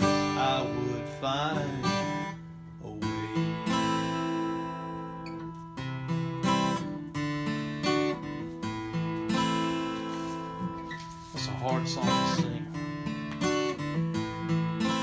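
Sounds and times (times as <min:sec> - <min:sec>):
acoustic guitar strummed slowly: 0:00.0 - 0:15.0.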